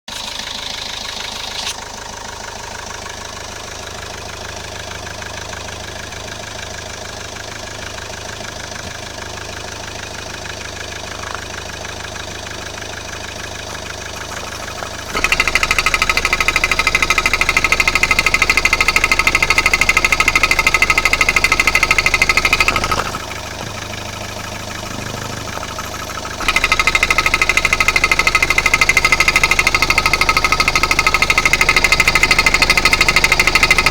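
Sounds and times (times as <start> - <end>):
diesel engine knocking rattle: 0.1 - 33.9.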